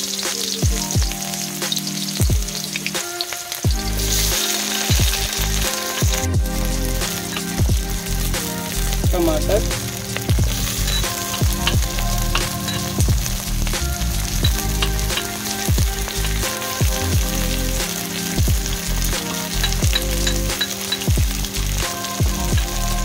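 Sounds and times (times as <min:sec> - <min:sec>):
onions sizzling in hot oil: 0:00.0 - 0:23.0.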